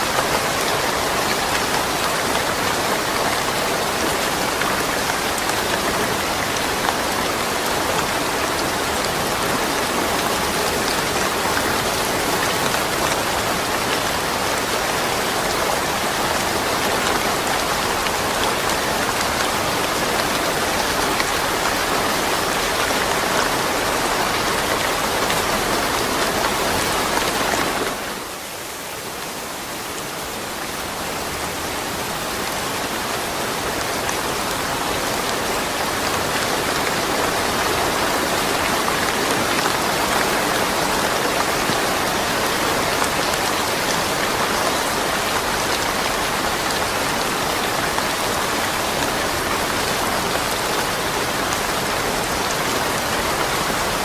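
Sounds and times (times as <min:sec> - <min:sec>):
rain pattering on surfaces: 0:00.0 - 0:54.0.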